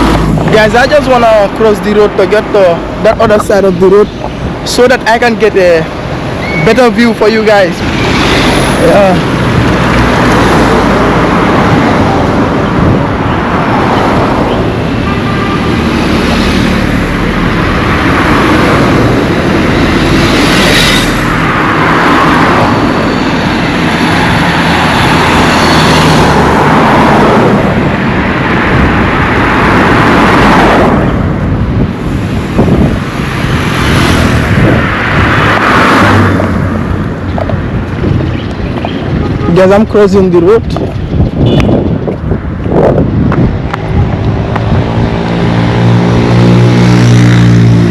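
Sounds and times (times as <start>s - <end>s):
steady traffic roar: 0.0s - 47.9s
vehicles passing by: 0.0s - 47.9s.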